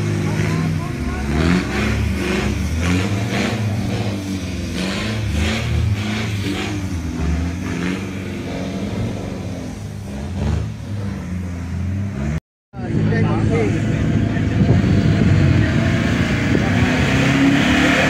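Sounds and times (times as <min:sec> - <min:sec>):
pickup engine revving hard: 0:00.0 - 0:12.4, 0:13.0 - 0:18.0.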